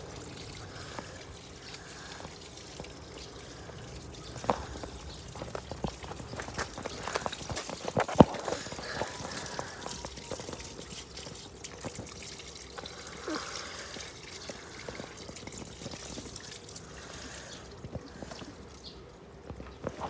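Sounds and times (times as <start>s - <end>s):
water pouring and trickling: 0.0s - 20.0s
water splashes: 0.0s - 20.0s.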